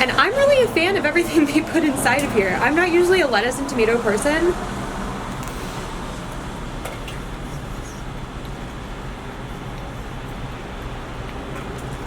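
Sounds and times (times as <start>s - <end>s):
low background rumble and hum: 0.0s - 12.0s.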